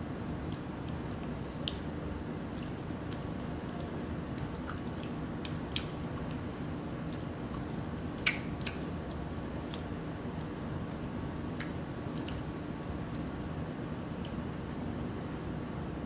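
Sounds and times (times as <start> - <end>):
low background hum: 0.0 - 16.0
soft chewing: 0.4 - 13.4, 14.0 - 15.7.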